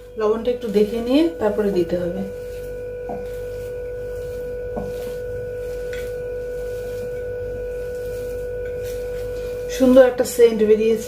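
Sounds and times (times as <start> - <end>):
steady tone: 0.0 - 11.0.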